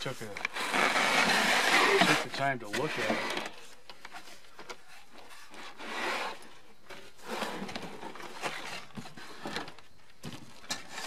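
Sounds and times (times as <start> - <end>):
cardboard box rustling and scraping: 0.0 - 4.4, 5.0 - 11.0.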